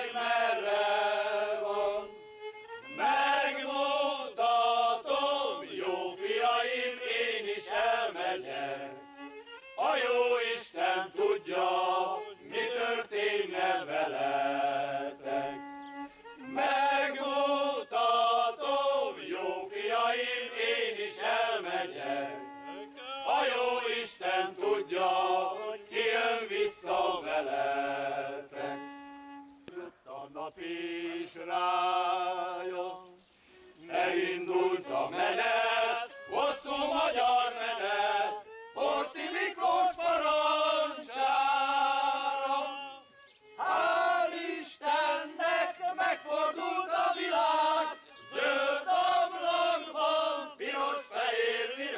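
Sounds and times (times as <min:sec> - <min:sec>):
men's choir singing: 0:00.0 - 0:02.1, 0:03.0 - 0:09.0, 0:09.8 - 0:15.7, 0:16.4 - 0:28.8, 0:29.7 - 0:33.2, 0:33.8 - 0:51.9
violin playing: 0:00.0 - 0:30.0, 0:33.5 - 0:51.2.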